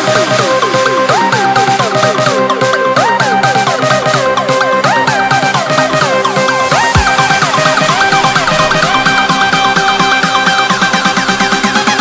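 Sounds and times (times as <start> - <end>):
synth line sliding: 0.0 - 11.1
fast dance beat: 0.0 - 12.0.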